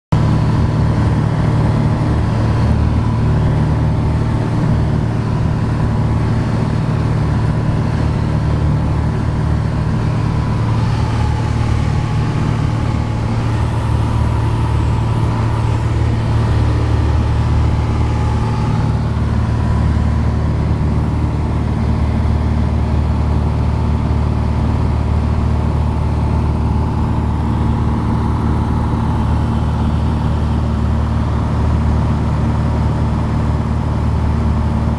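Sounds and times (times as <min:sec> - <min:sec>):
aircraft engine and propeller: 0:00.1 - 0:34.9.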